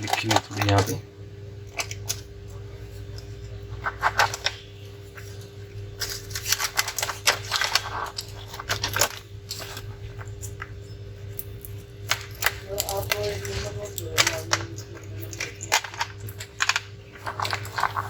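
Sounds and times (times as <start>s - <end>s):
steady low hum: 0.0s - 18.0s
laptop parts clicking and scraping: 1.7s - 18.0s.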